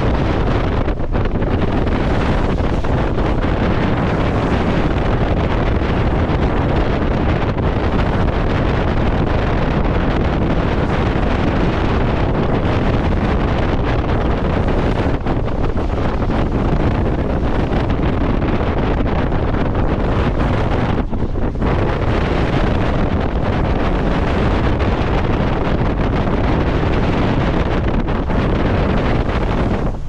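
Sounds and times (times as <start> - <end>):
water rushing along hull: 0.0 - 30.0
wind buffeting microphone: 0.0 - 30.0.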